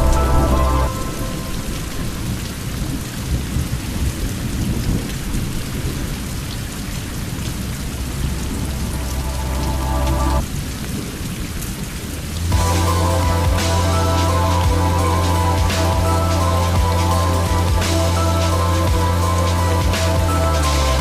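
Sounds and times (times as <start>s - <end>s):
thunder rumble: 0.0s - 11.3s, 12.0s - 21.0s
rain falling: 0.0s - 21.0s.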